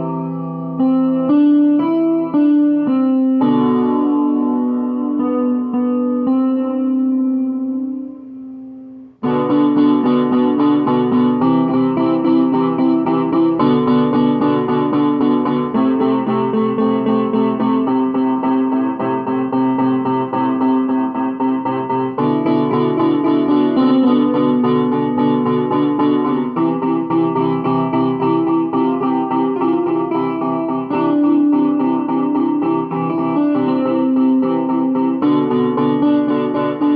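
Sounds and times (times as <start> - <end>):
piano playing: 0.0 - 36.9.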